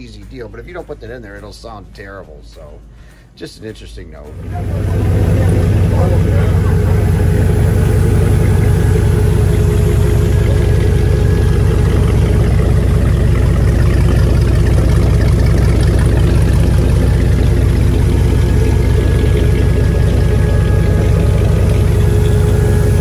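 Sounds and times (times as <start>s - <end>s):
boat engine idling: 4.2s - 23.0s.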